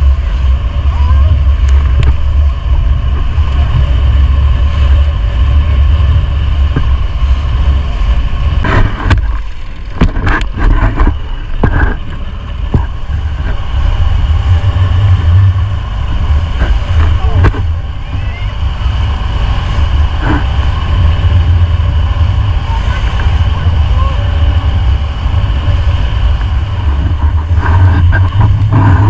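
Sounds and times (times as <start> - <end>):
hull knocking and splashing: 0.0 - 29.0
motorboat engine running: 0.0 - 29.0
wind rumble on microphone: 0.0 - 29.0.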